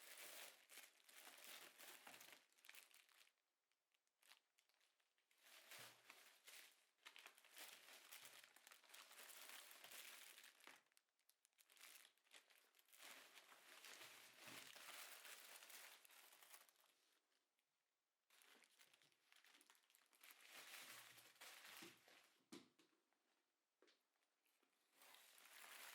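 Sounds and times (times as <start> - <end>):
crinkling and rustling: 0.0 - 3.2, 4.2 - 17.0, 18.3 - 23.0, 23.8 - 25.9.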